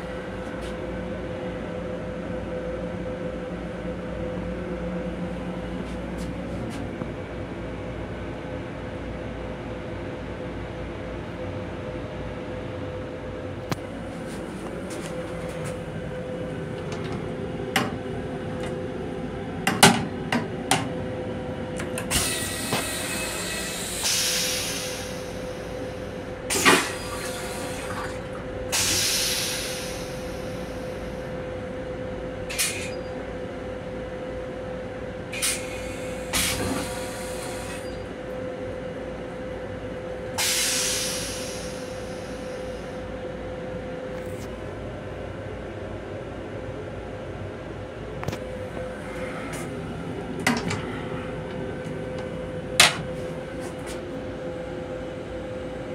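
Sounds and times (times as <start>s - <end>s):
railcar hum: 0.0s - 55.9s.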